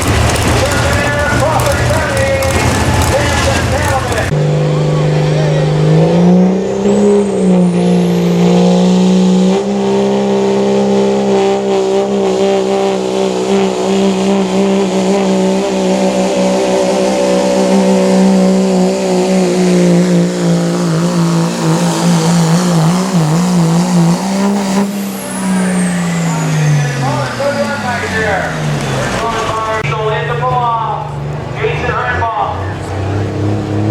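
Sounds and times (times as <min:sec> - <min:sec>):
truck engine at high revs: 0:00.0 - 0:33.9.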